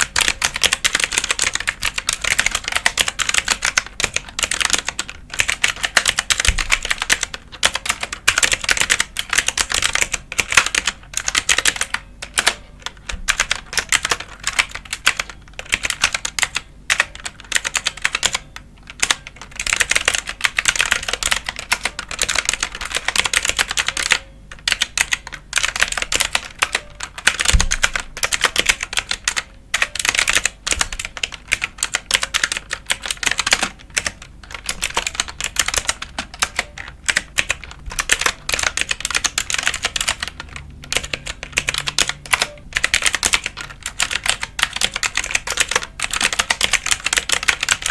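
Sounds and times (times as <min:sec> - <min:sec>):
computer keyboard typing: 0:00.0 - 0:47.9.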